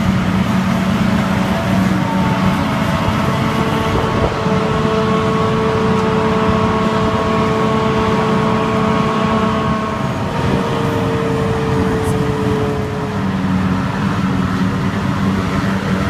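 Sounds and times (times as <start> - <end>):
drone of diesel engines: 0.0 - 16.0
held machine whine: 0.0 - 16.0.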